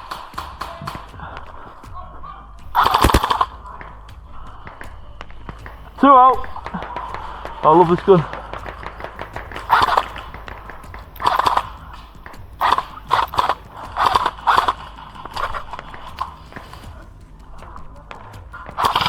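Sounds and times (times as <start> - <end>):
airsoft guns firing bursts: 0.0 - 19.0.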